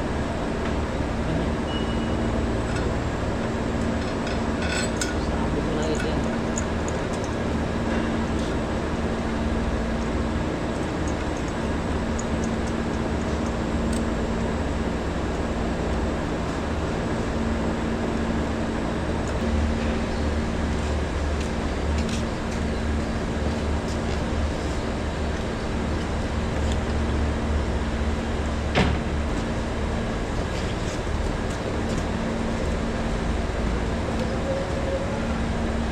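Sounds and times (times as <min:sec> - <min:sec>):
machinery hum: 0:00.0 - 0:35.9.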